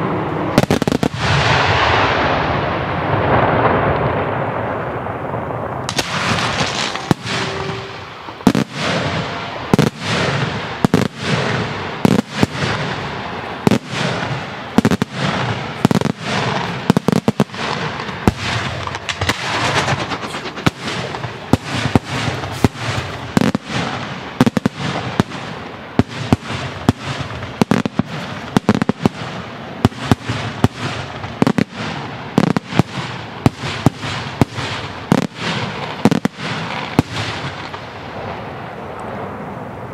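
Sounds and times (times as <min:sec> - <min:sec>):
continuous fireworks crackle: 0:00.0 - 0:39.9
firework shells bursting with bangs: 0:05.2 - 0:38.6.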